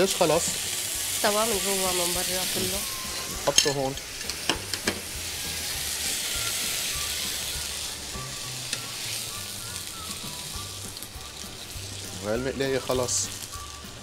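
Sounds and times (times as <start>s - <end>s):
chicken sizzling in a frying pan: 0.0s - 14.0s.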